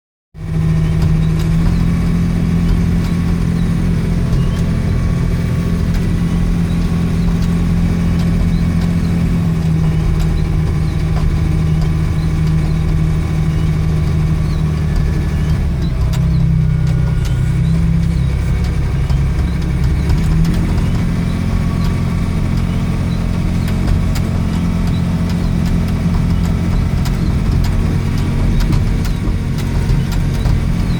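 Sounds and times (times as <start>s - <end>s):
engine idling: 0.4s - 30.9s.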